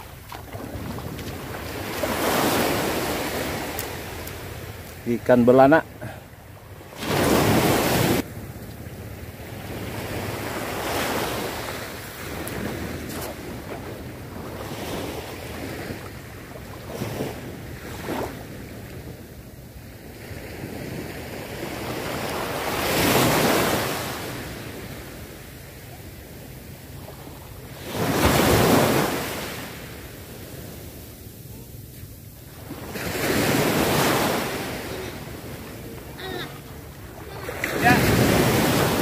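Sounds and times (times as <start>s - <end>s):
wind rumbling on microphone: 0.0s - 5.1s, 6.6s - 39.0s
waves breaking on shore: 0.0s - 39.0s.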